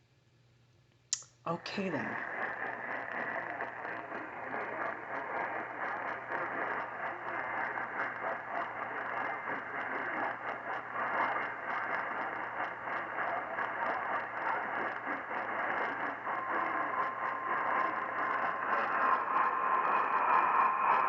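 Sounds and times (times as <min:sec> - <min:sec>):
faint low hum: 0:00.0 - 0:21.0
radio static hiss: 0:01.6 - 0:21.0
static crackling: 0:01.8 - 0:21.0.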